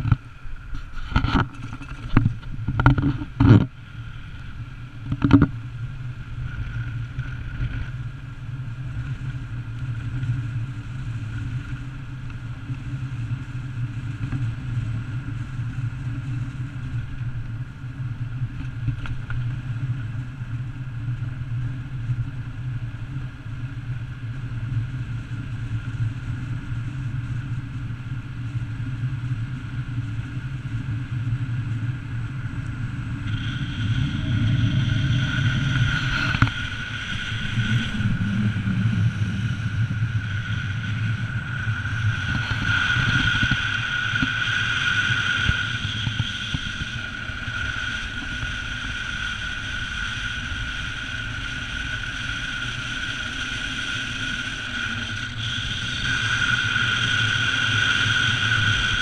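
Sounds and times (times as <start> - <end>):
car driving on gravel: 0.0 - 59.0.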